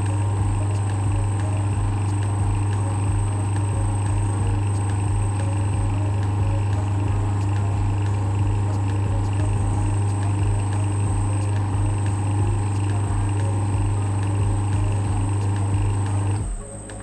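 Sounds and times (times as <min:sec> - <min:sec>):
stalled fan motor humming: 0:00.0 - 0:17.0.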